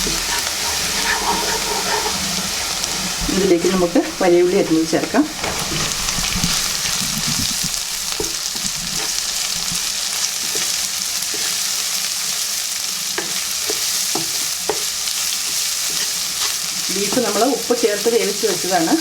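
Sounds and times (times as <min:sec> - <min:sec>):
onion sizzling in hot oil: 0:00.0 - 0:19.0.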